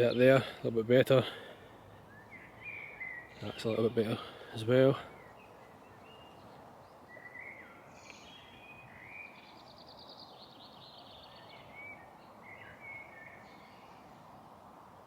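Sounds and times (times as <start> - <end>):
background hiss: 0.0 - 15.0
faint birdsong: 0.0 - 15.0.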